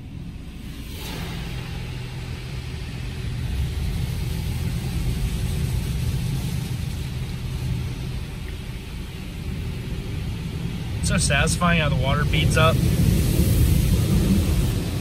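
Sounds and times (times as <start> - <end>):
high-pressure water jets spraying car: 0.0 - 15.0.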